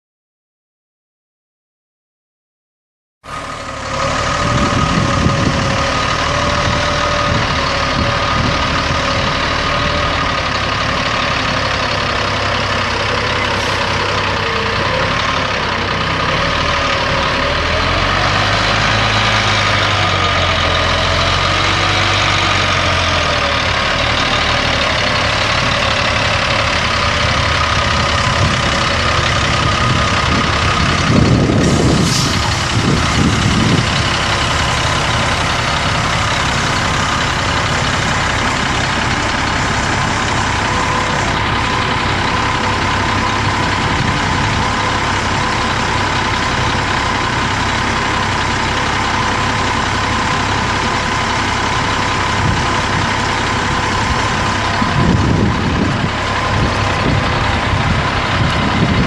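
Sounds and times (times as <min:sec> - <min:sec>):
diesel truck engine idling: 0:03.2 - 0:59.0.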